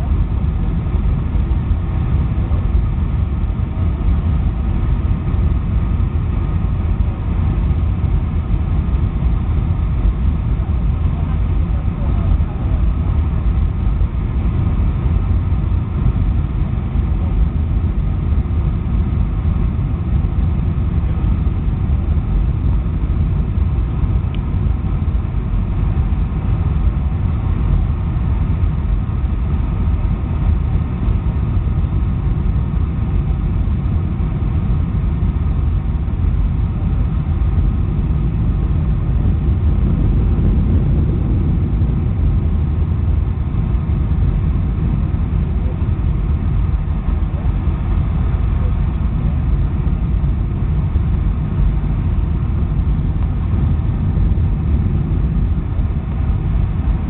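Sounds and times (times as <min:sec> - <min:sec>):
aircraft cabin engine rumble: 0:00.0 - 0:57.0
faint steady whine: 0:00.0 - 0:57.0.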